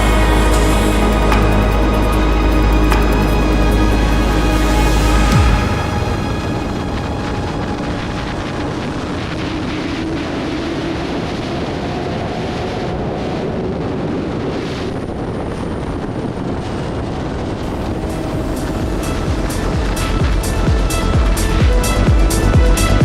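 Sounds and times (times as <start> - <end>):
motorcycle engine drone: 0.0 - 23.0
wind rushing: 0.0 - 23.0.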